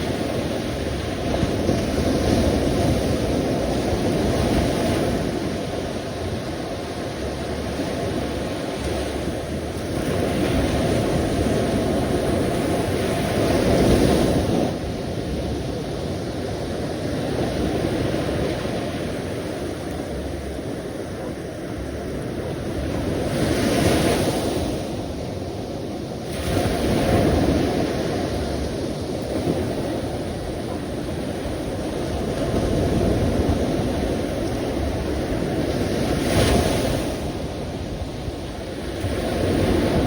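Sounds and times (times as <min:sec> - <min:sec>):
sea waves washing ashore: 0:00.0 - 0:40.0.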